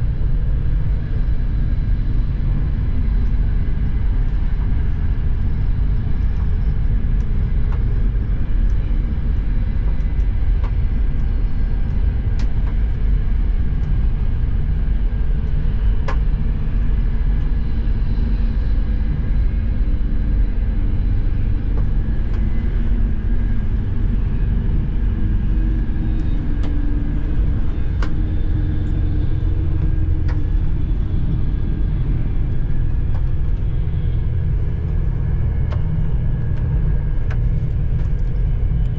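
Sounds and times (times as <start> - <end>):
train rumble inside coach: 0.0 - 38.9.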